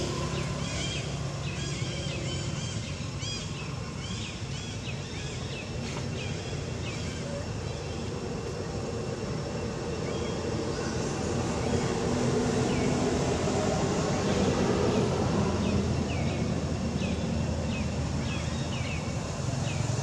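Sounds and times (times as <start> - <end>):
outdoor rumble and hum: 0.0 - 20.0.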